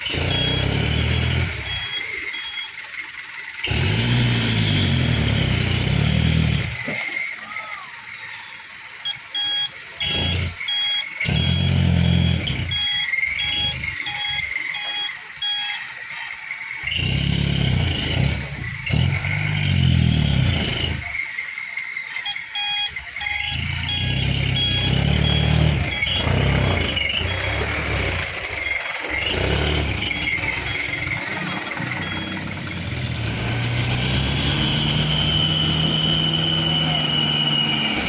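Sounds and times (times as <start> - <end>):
reversing alarm beeping: 0.0 - 38.0
truck diesel engine surging: 0.0 - 38.0.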